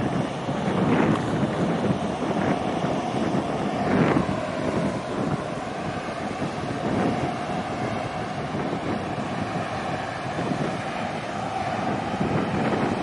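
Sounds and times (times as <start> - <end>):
sea rushing: 0.0 - 13.0
wind buffeting the microphone: 0.0 - 13.0.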